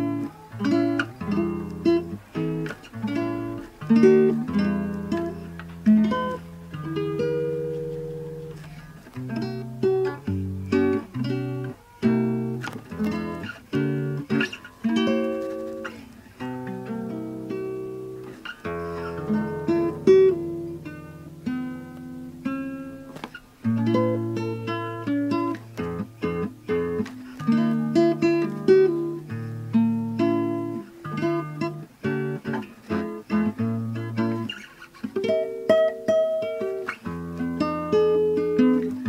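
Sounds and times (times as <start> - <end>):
acoustic guitar music: 0.0 - 39.0.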